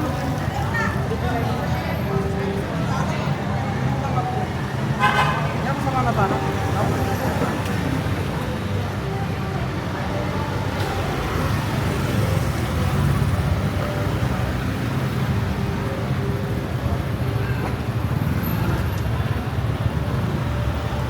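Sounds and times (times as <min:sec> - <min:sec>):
faint voices of passers-by: 0:00.0 - 0:21.0
road traffic rumble: 0:00.0 - 0:21.0.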